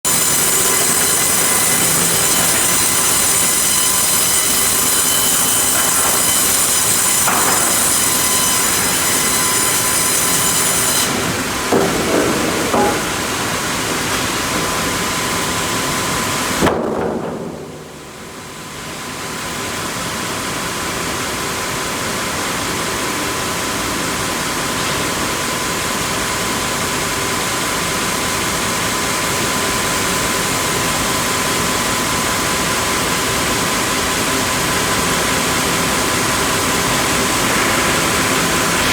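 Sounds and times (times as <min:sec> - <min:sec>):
sawmill machinery running: 0:00.1 - 0:38.9.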